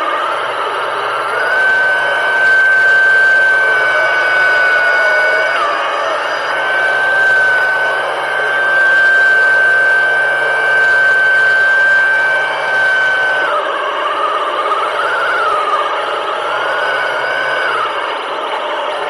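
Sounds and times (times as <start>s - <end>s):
churning hum: 0.0s - 19.0s
underwater motor whining: 0.0s - 19.0s.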